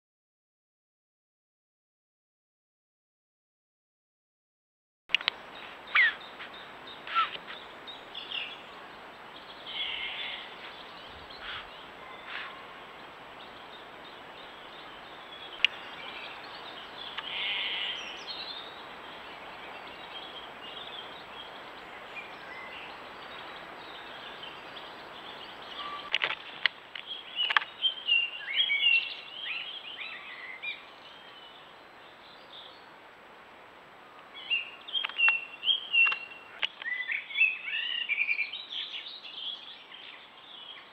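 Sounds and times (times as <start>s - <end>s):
songbird chirps and calls: 5.1s - 33.1s, 34.0s - 40.9s
steady outdoor hiss: 5.1s - 40.9s.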